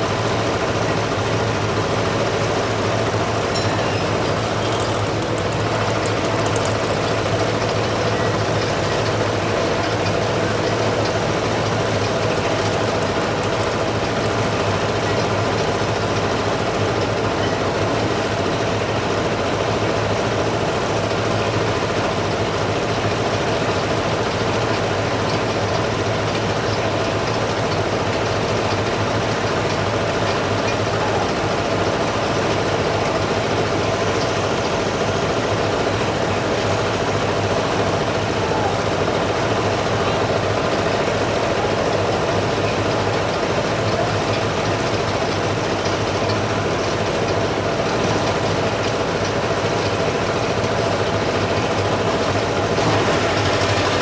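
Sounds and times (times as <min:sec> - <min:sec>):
large engine humming: 0:00.0 - 0:54.0.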